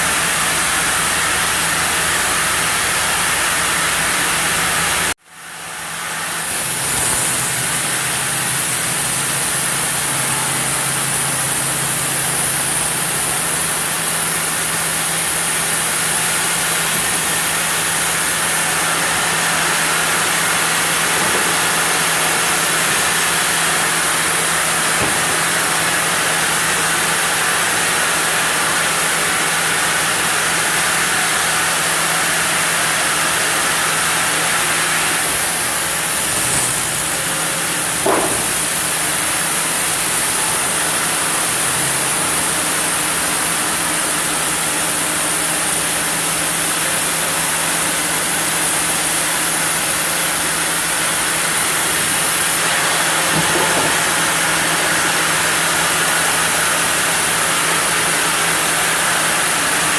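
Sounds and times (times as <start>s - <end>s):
saw cutting wood hiss: 6.2s - 59.9s.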